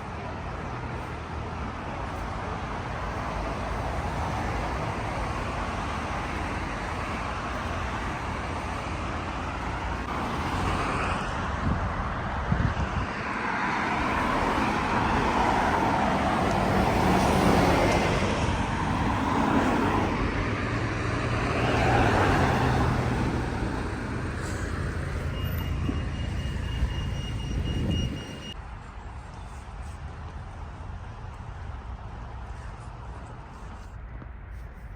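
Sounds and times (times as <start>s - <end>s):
cars driving by: 0.0s - 34.9s.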